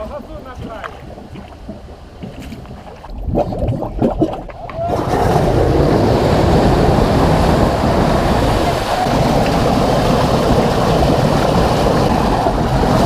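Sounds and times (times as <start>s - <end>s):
water surging and splashing: 0.0s - 13.0s.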